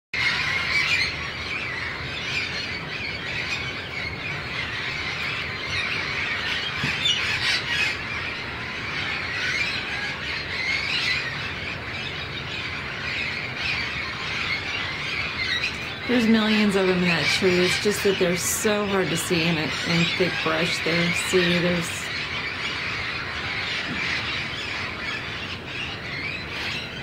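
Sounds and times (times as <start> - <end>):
parrots squawking: 0.2 - 27.0.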